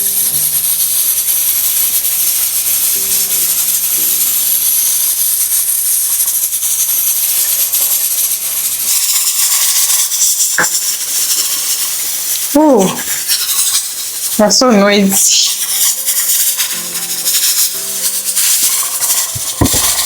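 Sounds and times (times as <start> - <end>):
pot lid hissing and rattling: 0.0 - 20.0.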